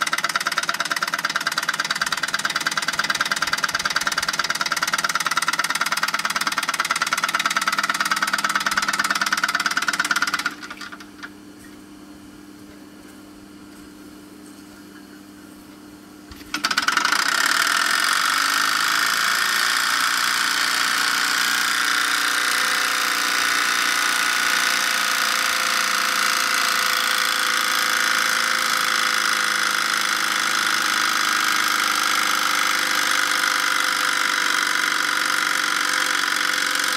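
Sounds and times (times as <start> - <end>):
steam engine running: 0.0 - 11.1, 16.5 - 36.9.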